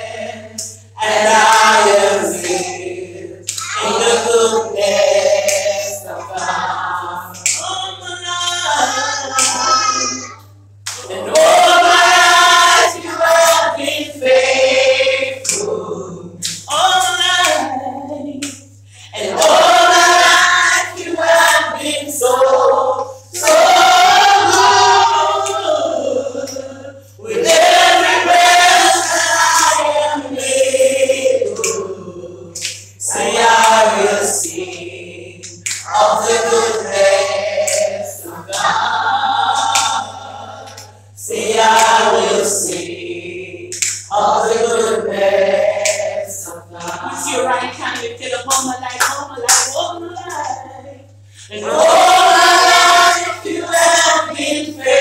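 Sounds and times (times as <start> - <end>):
steady low hum: 0.0 - 55.0
women singing gospel unaccompanied: 0.0 - 55.0.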